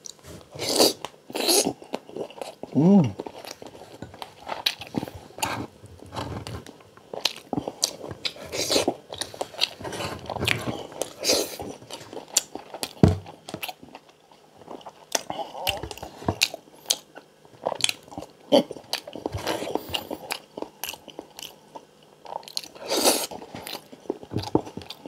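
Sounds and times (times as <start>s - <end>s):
man chewing crunchy food: 0.0s - 25.0s.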